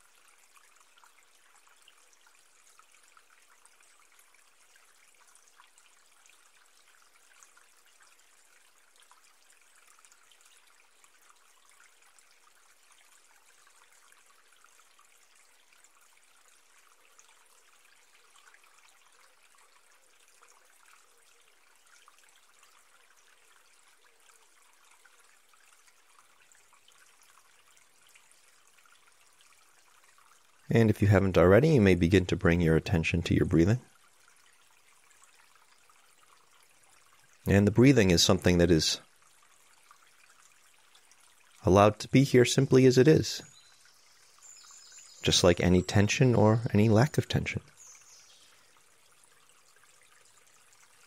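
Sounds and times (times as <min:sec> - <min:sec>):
faint crackly hiss: 0:00.0 - 0:51.0.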